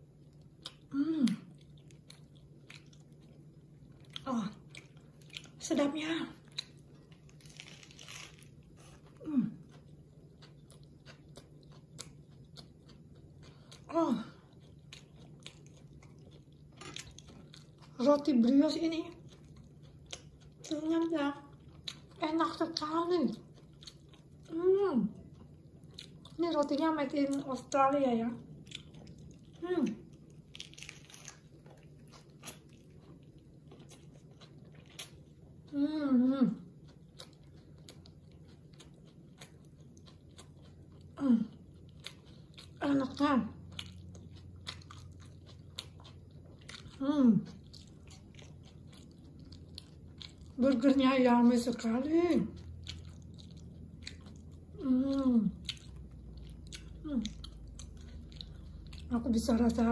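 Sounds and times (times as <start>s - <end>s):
person chewing food: 0.0s - 5.6s, 6.3s - 22.2s, 22.8s - 27.6s, 28.4s - 35.8s, 36.6s - 51.0s, 51.8s - 59.9s.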